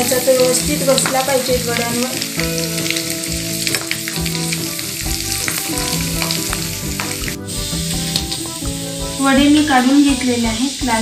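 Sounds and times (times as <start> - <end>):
hot oil sizzling and bubbling: 0.0 - 11.0.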